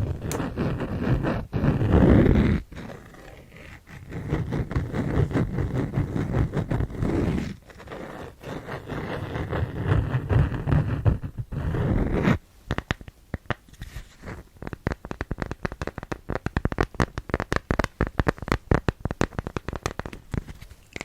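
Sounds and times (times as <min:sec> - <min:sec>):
loud scratchy rubbing: 0:00.0 - 0:20.8
rapid tapping on cloth and cork: 0:00.0 - 0:21.0.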